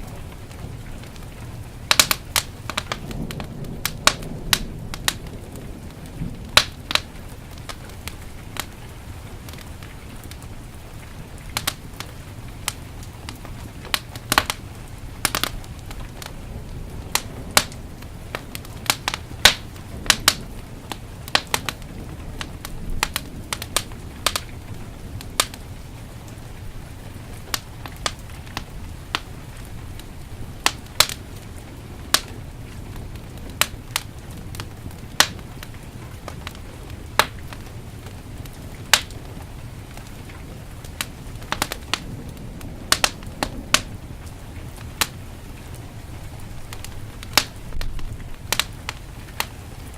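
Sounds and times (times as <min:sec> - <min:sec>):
heavy rain: 0:00.0 - 0:49.9
wood fire crackling and popping: 0:00.0 - 0:49.9.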